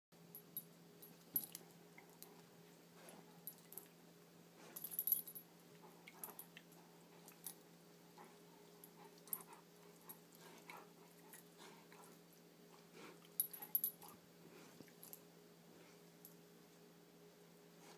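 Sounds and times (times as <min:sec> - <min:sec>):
steady low hum: 0:00.2 - 0:17.9.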